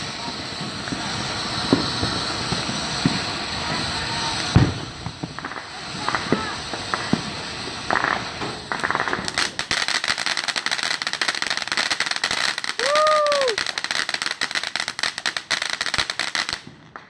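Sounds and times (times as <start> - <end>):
firework crackling hiss: 0.0 - 17.0.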